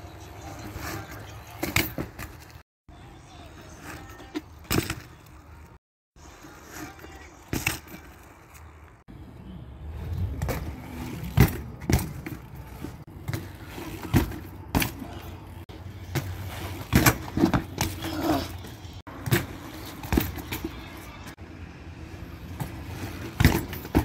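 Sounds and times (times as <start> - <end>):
bike tyres rumbling on concrete: 0.4 - 2.6, 3.5 - 24.0
bike clacks and thumps: 0.5 - 2.6, 3.8 - 5.4, 6.4 - 9.0, 9.9 - 21.4, 22.4 - 24.0.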